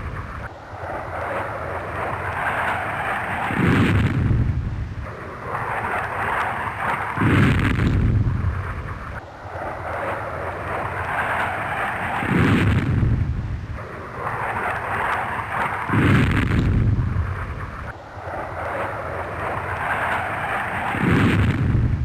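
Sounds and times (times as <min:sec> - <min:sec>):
airplane roaring hiss: 0:00.0 - 0:22.0
deep rumbling surges: 0:00.0 - 0:22.0.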